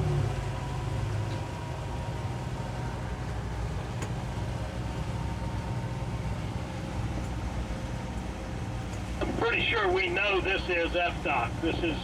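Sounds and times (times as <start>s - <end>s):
outboard motors droning: 0.0s - 12.0s.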